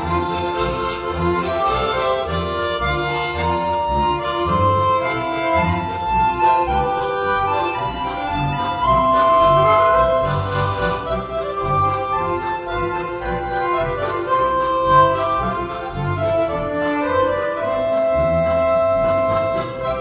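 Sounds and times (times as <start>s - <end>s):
harmonica ensemble playing: 0.0s - 20.0s.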